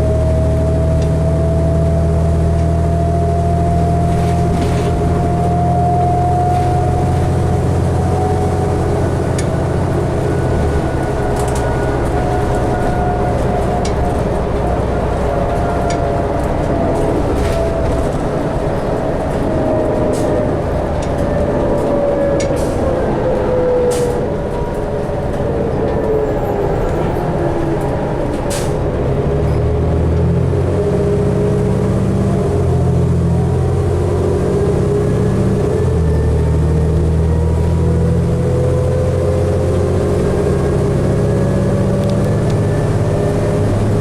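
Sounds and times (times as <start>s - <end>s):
diesel bus engine whining: 0.0s - 44.0s.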